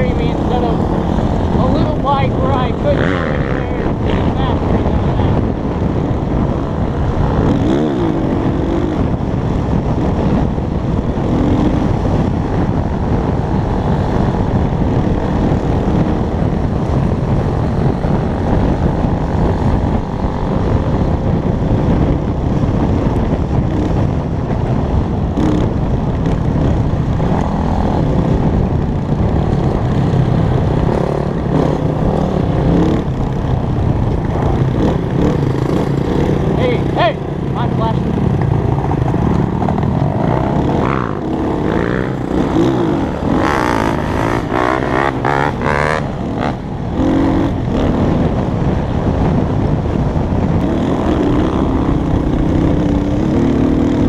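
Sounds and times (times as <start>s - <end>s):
dirt bike engines running: 0.0s - 54.0s.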